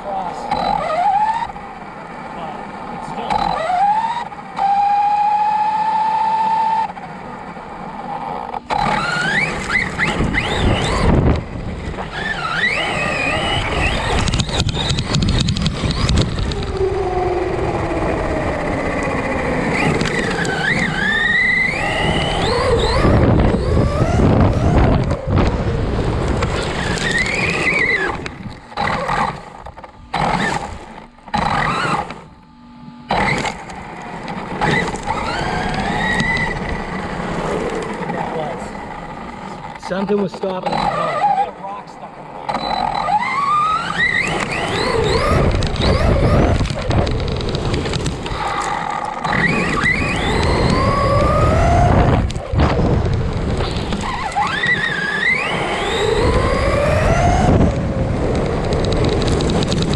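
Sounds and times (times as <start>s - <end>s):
tyres churning over sand: 0.0s - 32.3s, 33.1s - 59.9s
electric motor whining: 0.0s - 59.9s.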